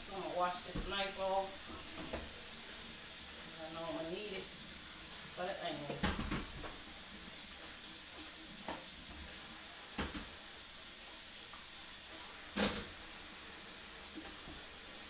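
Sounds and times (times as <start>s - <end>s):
kitchen tap running: 0.0s - 15.0s.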